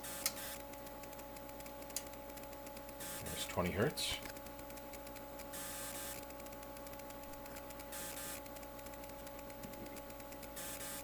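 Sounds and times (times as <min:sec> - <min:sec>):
electrical hum of test equipment: 0:00.0 - 0:11.0.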